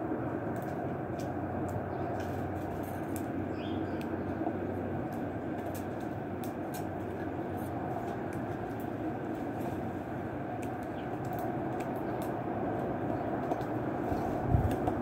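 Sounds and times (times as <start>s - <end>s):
outdoor background rumble: 0.0s - 15.0s.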